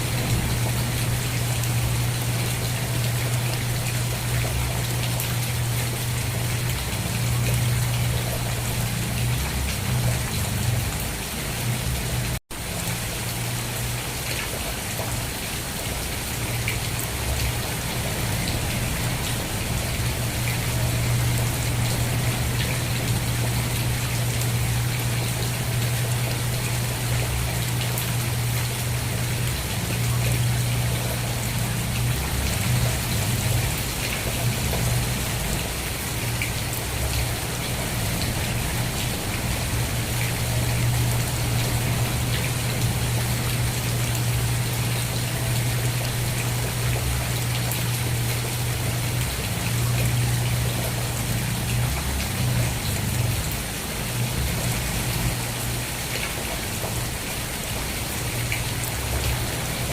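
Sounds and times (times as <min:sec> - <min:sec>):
constant low hum: 0:00.0 - 0:57.1
steady rain falling: 0:00.0 - 0:59.9.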